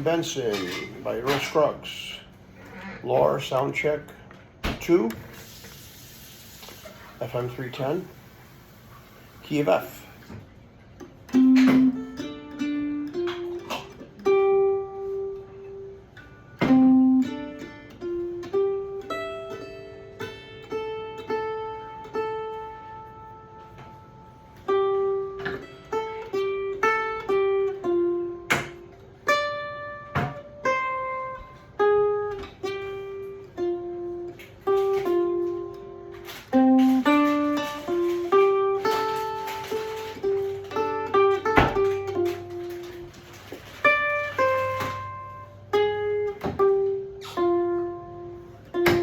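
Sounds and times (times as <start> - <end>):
electric plucked-string instrument: 4.9 - 49.0.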